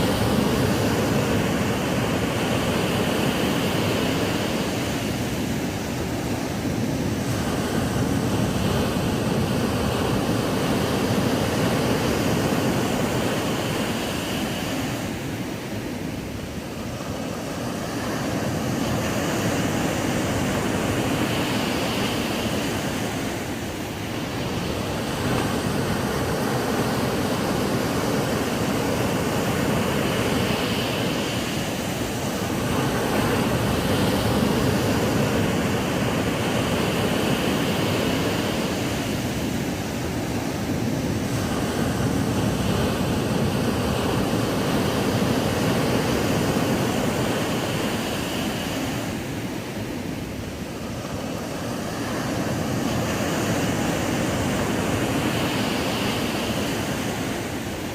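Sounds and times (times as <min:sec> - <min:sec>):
ocean waves breaking on beach: 0:00.0 - 0:57.9.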